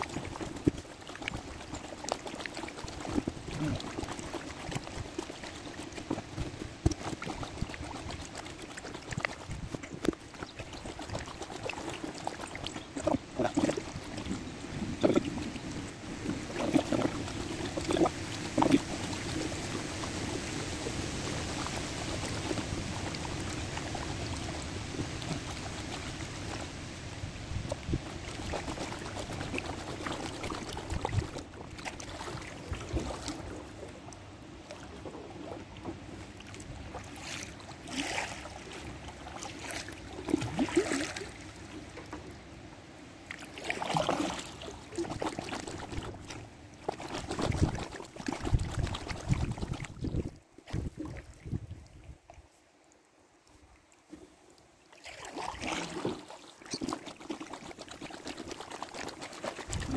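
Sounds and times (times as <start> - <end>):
water swishing off paddles: 0.0 - 52.7, 53.5 - 59.9
paddle splashes: 0.0 - 59.9
rushing water: 0.0 - 59.9.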